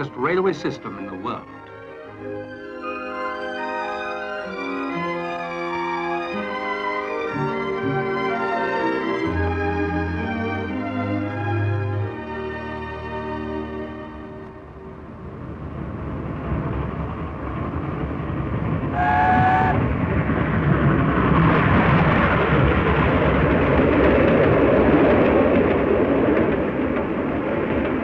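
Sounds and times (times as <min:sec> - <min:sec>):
steam train passing at speed: 0:00.0 - 0:28.0.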